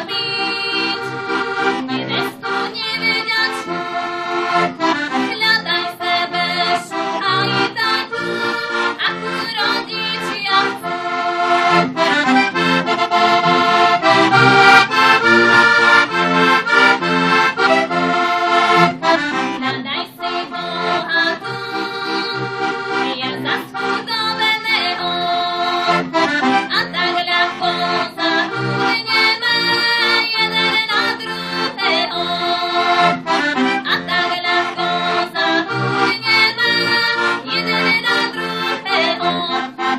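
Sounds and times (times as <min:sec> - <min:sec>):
button accordion playing folk tune: 0:00.0 - 0:39.9.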